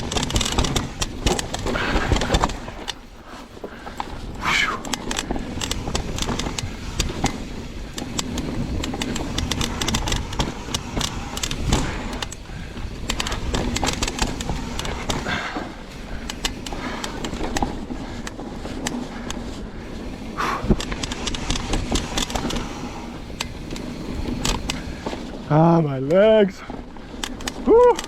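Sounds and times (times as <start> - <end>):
bike clicks and rattles: 0.0 - 28.0
bike tyres rumbling over dirt: 0.0 - 28.0
wind buffeting microphone: 0.0 - 28.0.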